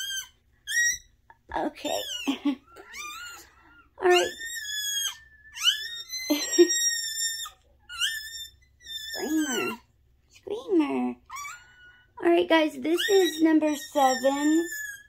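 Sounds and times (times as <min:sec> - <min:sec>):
puppy crying: 0:00.0 - 0:09.9, 0:11.2 - 0:12.2, 0:12.9 - 0:15.0.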